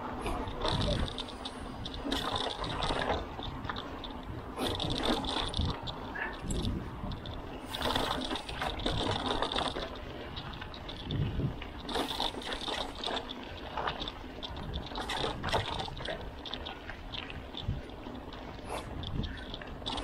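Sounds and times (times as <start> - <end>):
bike chain rattling and clicking: 0.0 - 20.0
bike tyres on dirt: 0.0 - 20.0
wind rumble on microphone: 0.0 - 20.0.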